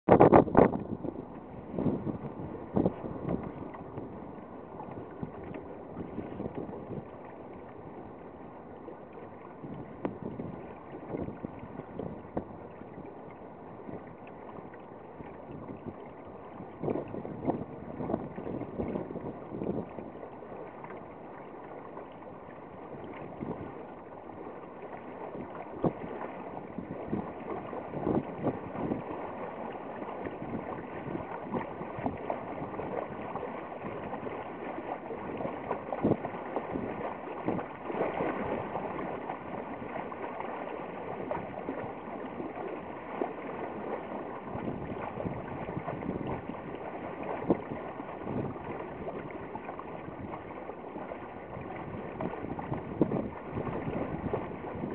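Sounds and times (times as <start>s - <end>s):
water splashing against a hull: 0.0s - 54.9s.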